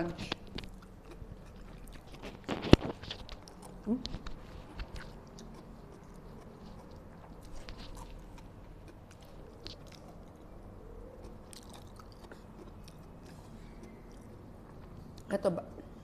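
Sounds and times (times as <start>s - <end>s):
mouth clicks and smacks: 0.0s - 16.0s
wet chewing mouth sounds: 0.0s - 16.0s.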